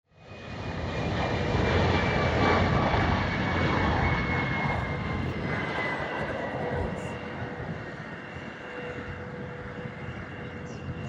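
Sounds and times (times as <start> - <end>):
jet engines passing by: 0.1 - 11.0.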